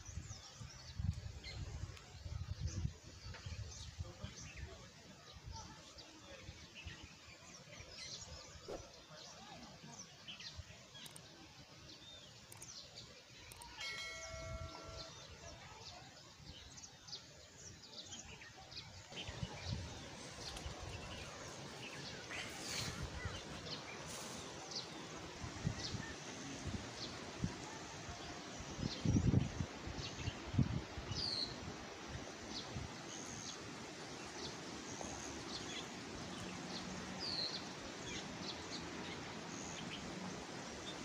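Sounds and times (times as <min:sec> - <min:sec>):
small birds chirping: 0:03.2 - 0:27.6, 0:28.2 - 0:41.0.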